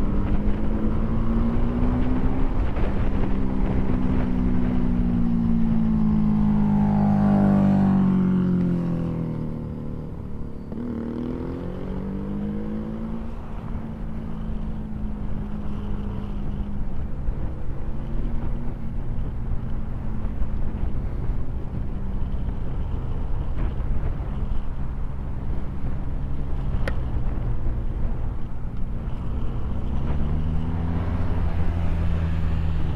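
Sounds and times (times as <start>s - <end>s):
motorcycle engine running: 0.0s - 32.9s
road and wind rumble: 0.0s - 32.9s.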